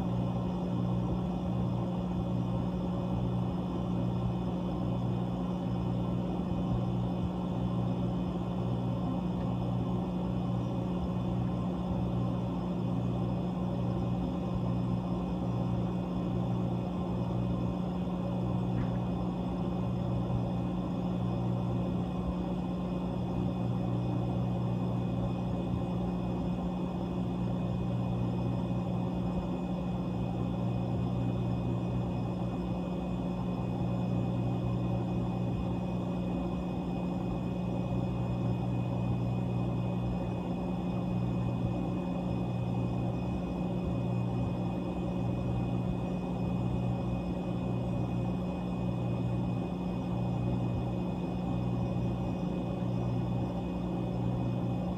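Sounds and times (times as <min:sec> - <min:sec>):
compressor humming: 0:00.0 - 0:54.9.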